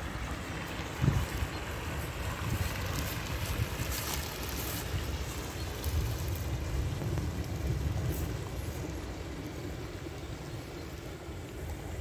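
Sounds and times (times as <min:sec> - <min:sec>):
stream babbling over stones: 0:00.0 - 0:12.0
wind noise on microphone: 0:00.8 - 0:12.0.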